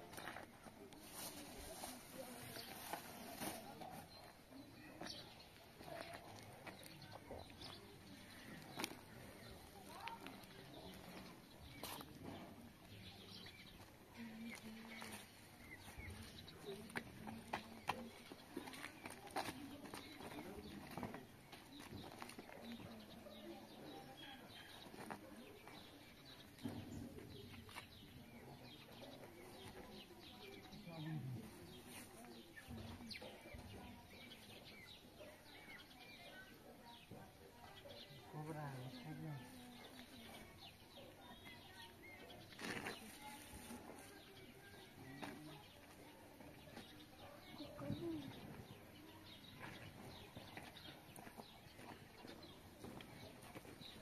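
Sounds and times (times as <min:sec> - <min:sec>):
faint birdsong: 0:00.0 - 0:54.0.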